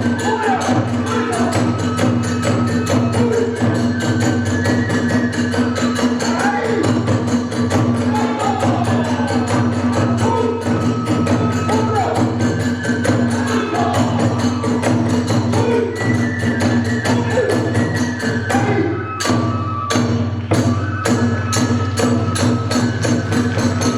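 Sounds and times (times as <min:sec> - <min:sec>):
drum beat: 0:00.0 - 0:16.1, 0:20.0 - 0:23.9
flute melody: 0:00.0 - 0:23.9.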